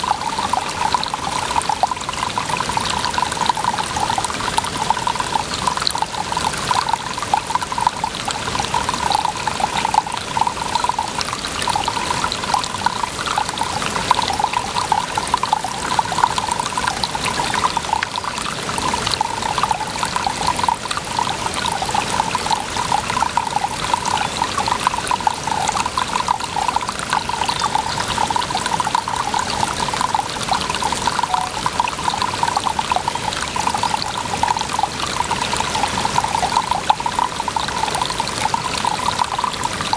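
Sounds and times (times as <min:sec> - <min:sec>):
running water pouring: 0:00.0 - 0:39.9.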